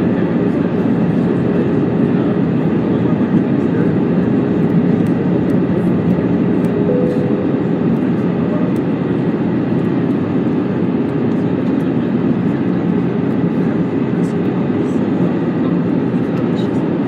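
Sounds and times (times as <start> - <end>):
jet engines droning: 0.1 - 17.0.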